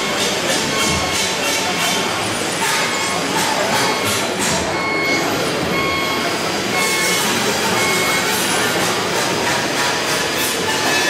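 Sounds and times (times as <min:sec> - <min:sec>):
reversing alarm beeping: 0:00.0 - 0:08.9.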